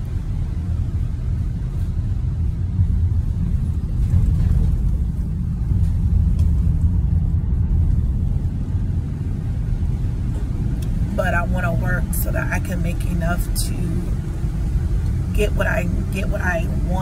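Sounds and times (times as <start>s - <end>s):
van engine rumble: 0.0s - 17.0s.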